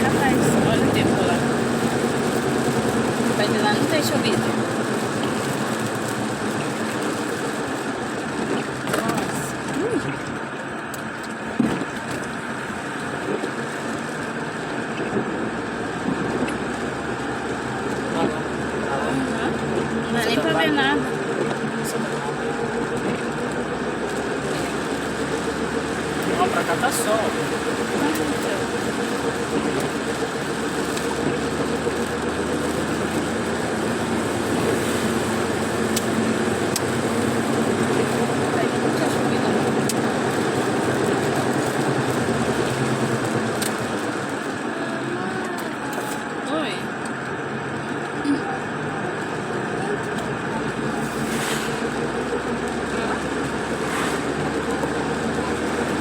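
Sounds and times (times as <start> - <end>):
heavy rain on a car: 0.0 - 56.0
tyres on wet road: 0.0 - 56.0.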